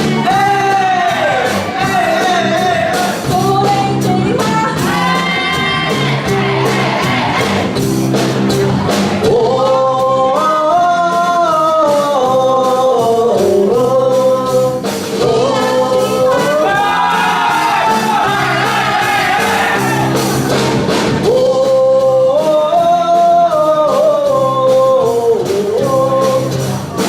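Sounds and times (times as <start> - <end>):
person singing live: 0.0 - 7.8, 9.2 - 20.5, 21.2 - 27.0
band playing a steady beat: 0.0 - 27.0.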